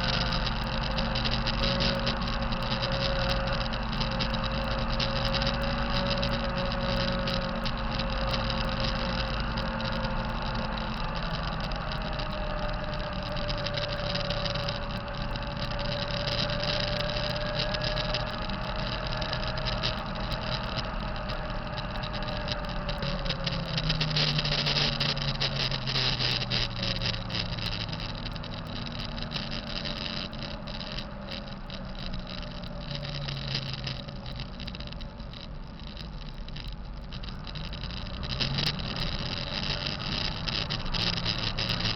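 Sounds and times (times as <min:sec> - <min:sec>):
diesel engine running: 0:00.0 - 0:41.9
wavering whine: 0:00.0 - 0:41.9.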